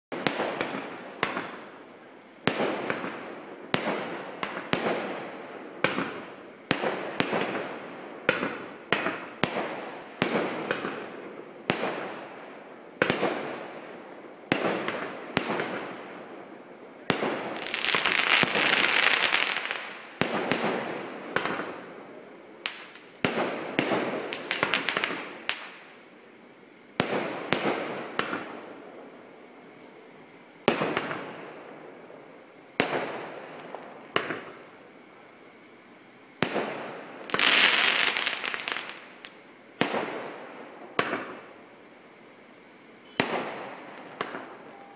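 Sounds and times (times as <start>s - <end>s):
fireworks bursting with echo: 0.1s - 1.8s, 2.4s - 22.0s, 22.6s - 25.9s, 27.0s - 28.8s, 30.6s - 31.8s, 32.8s - 34.6s, 36.4s - 41.5s, 43.0s - 44.9s.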